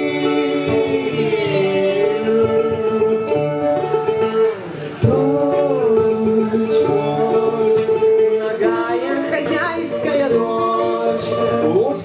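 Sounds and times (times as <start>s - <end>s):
guitar playing: 0.0s - 12.0s
live band music: 0.0s - 12.0s
person singing: 0.0s - 12.0s.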